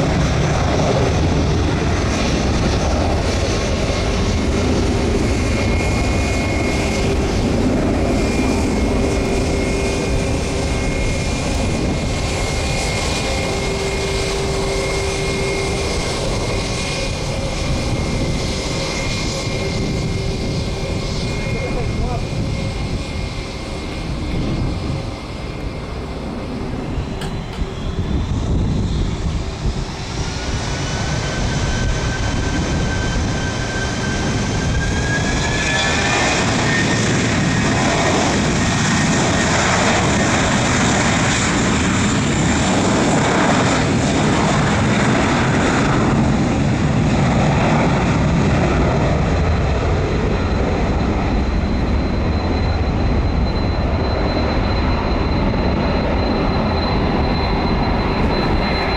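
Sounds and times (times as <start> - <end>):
jet engines spooling up: 0.0 - 58.9.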